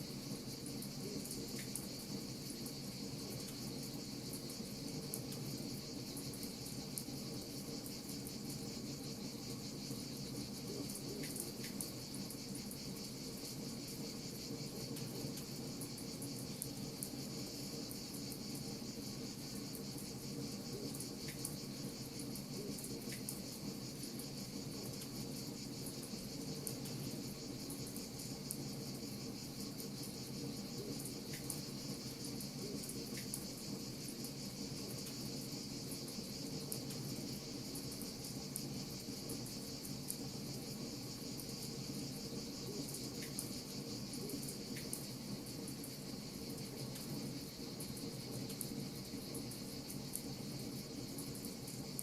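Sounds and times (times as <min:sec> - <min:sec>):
continuous high-pitched chirring: 0:00.0 - 0:52.0.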